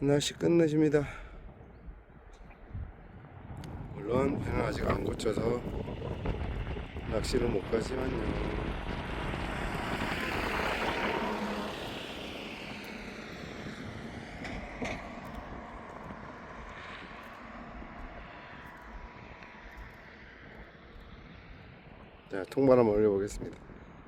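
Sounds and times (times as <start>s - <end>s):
passing vehicle: 2.8s - 22.3s.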